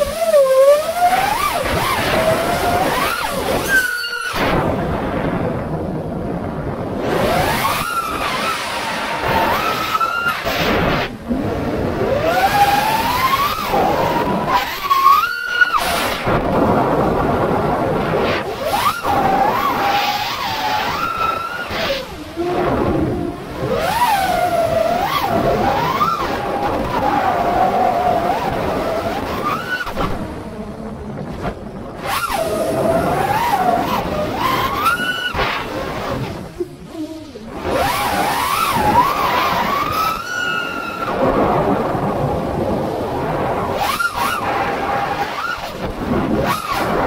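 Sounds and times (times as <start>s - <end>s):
drone motors whining: 0.0s - 47.0s
rushing wind noise: 0.0s - 47.0s.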